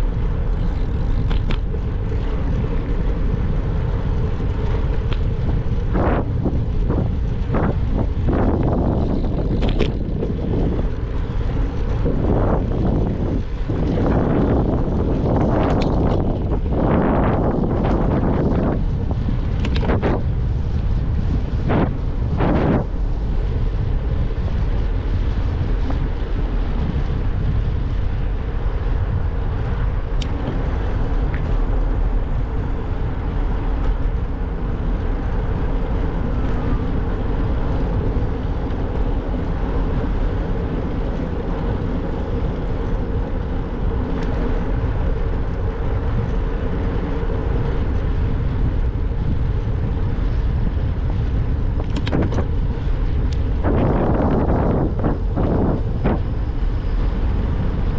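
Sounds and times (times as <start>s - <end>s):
wind rush on microphone: 0.0s - 57.9s.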